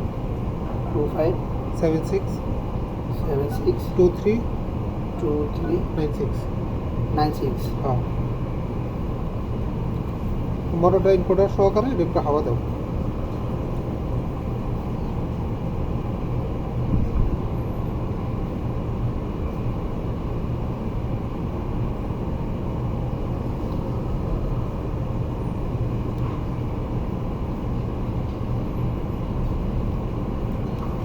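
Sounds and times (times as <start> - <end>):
low background rumble: 0.0 - 31.0.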